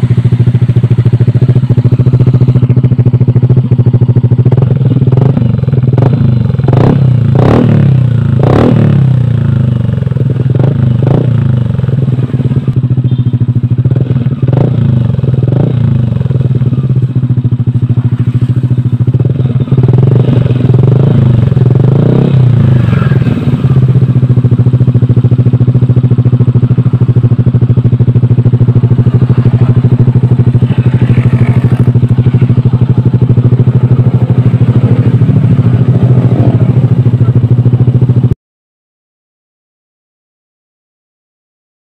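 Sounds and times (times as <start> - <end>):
scooter engine revving and idling: 0.0 - 38.4.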